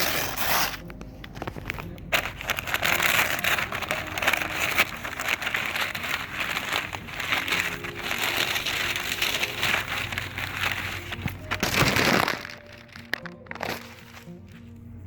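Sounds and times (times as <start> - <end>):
wrapping material rustling: 0.0 - 15.0.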